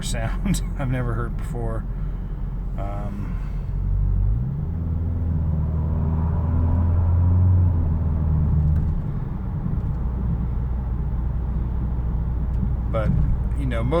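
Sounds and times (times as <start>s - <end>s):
deep exhaust drone inside car: 0.0s - 14.0s.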